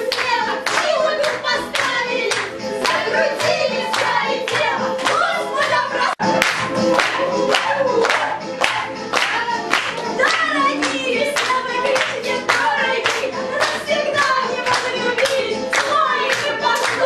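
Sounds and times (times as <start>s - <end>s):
rhythmic clapping: 0.0s - 17.0s
song with music: 0.0s - 17.0s.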